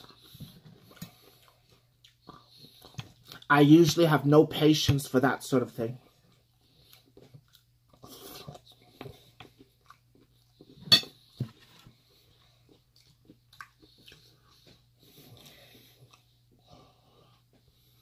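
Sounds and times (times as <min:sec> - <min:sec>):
quiet chewing: 0:00.0 - 0:03.5, 0:06.1 - 0:18.0.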